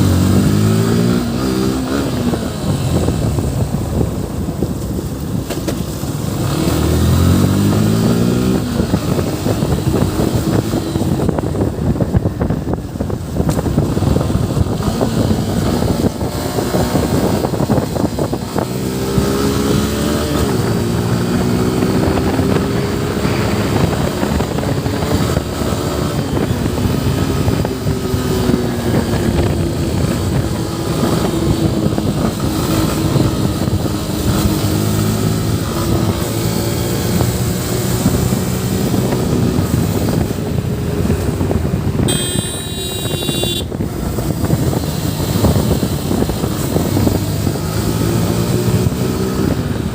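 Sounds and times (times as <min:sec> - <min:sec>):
motorcycle engine accelerating: 0:00.0 - 0:49.9
rushing wind noise: 0:00.0 - 0:49.9.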